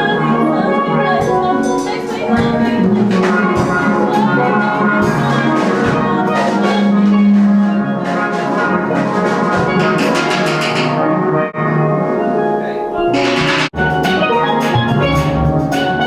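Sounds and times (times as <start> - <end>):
drums: 0.0 - 11.5, 13.0 - 16.0
steelpans playing a melody: 0.0 - 16.0.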